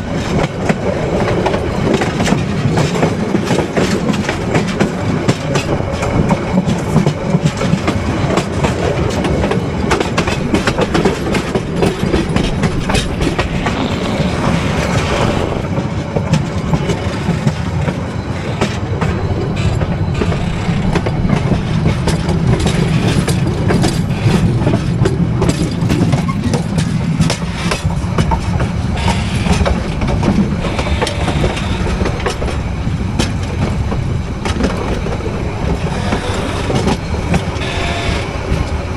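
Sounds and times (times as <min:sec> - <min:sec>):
train wheels rumbling on rails: 0:00.0 - 0:38.9
rail-joint clicking: 0:00.1 - 0:38.8.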